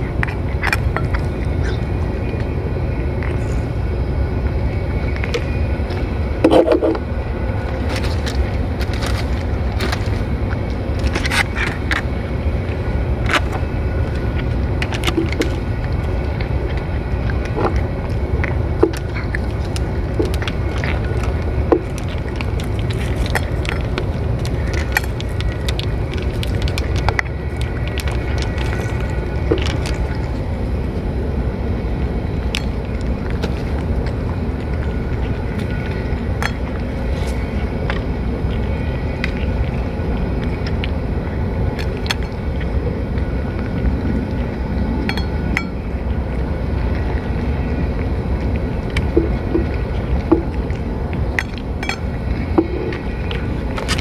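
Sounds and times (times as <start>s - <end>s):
cat chewing and lapping: 0.0s - 54.0s
steady low rumble: 0.0s - 54.0s.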